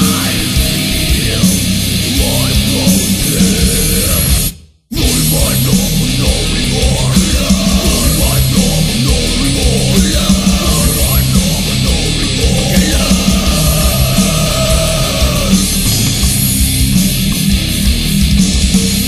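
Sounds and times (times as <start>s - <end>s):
heavy rock music with guitar: 0.0s - 19.0s.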